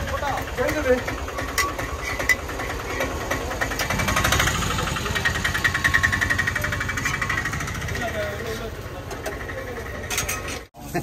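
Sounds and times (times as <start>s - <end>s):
engine idling with knocking clatter: 0.0s - 10.9s.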